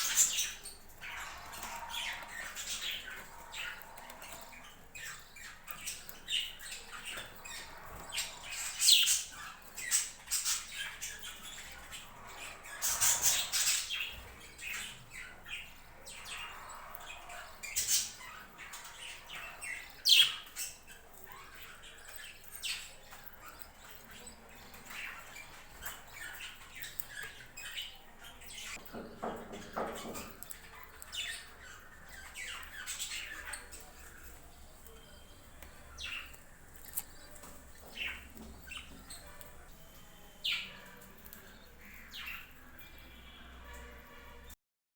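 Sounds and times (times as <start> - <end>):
budgerigars chattering and squawking: 0.0 - 43.4.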